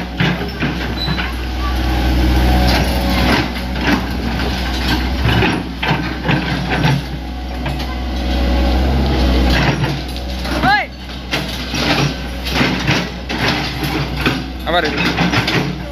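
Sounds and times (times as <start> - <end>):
excavator diesel engine humming: 0.0 - 15.9.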